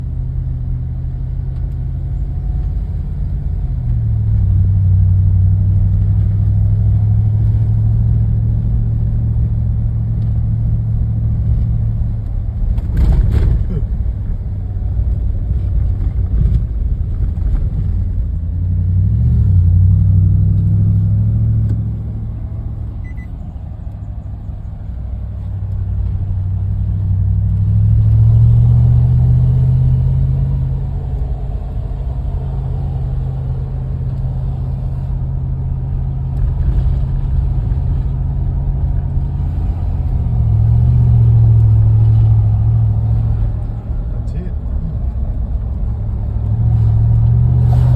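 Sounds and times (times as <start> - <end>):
car engine driving: 0.0 - 47.9
road rumble: 0.0 - 47.9.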